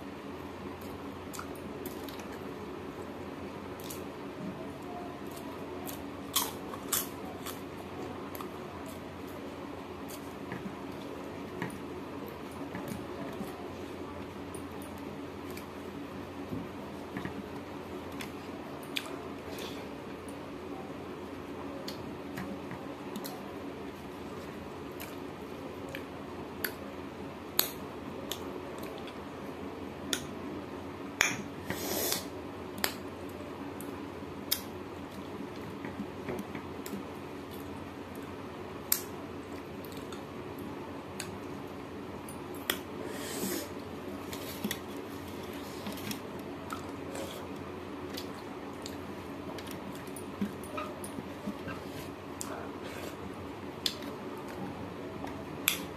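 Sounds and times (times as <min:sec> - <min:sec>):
low room hum: 0:00.0 - 0:55.9.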